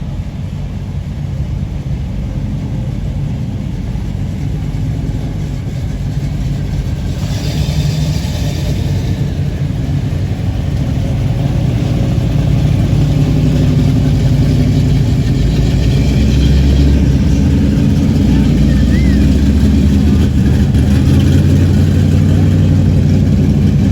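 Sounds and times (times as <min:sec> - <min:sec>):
car engine rumbling: 0:00.0 - 0:23.9.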